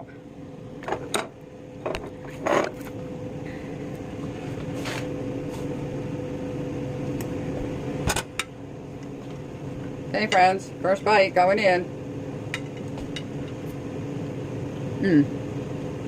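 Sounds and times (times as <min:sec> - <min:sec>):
kitchen appliance humming: 0:00.0 - 0:16.0.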